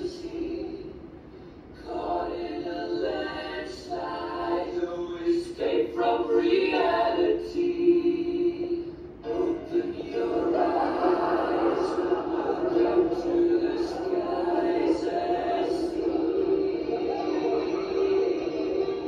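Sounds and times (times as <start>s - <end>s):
voices singing a cappella: 0.0s - 1.0s, 1.8s - 19.0s.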